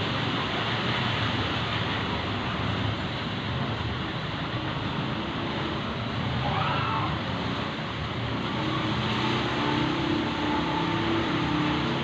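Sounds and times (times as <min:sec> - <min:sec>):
steady rumble and hiss: 0:00.0 - 0:12.0.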